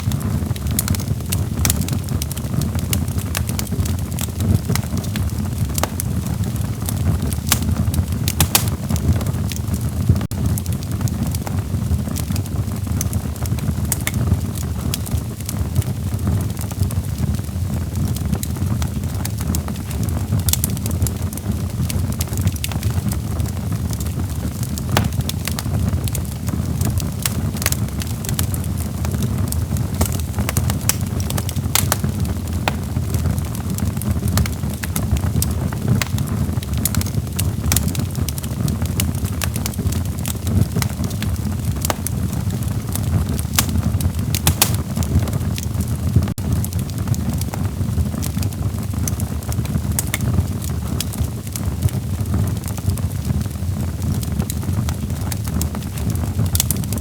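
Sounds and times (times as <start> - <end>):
fire flames rumbling: 0.0 - 57.0
wood crackling and popping: 0.0 - 57.0.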